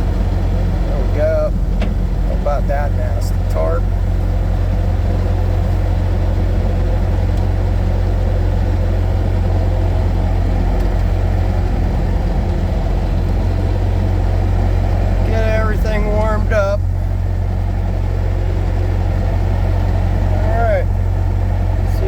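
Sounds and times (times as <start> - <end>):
skid steer engine idling: 0.0 - 22.0.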